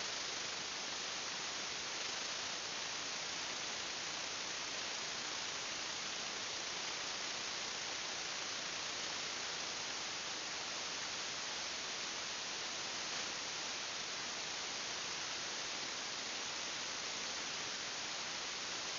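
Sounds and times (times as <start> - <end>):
microphone hiss: 0.0 - 18.9.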